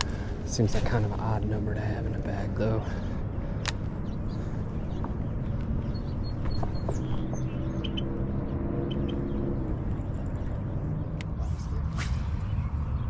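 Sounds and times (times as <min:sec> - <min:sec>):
distant engine drone: 0:00.0 - 0:13.0
low outdoor rumble: 0:00.0 - 0:13.0
small birds chirping: 0:00.0 - 0:13.0.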